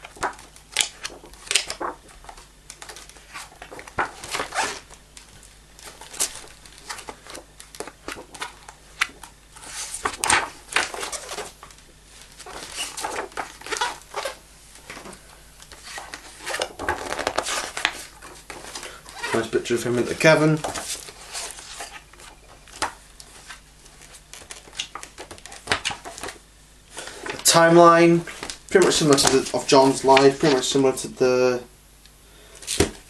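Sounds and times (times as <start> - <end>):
book pages rustling: 0.0 - 31.0.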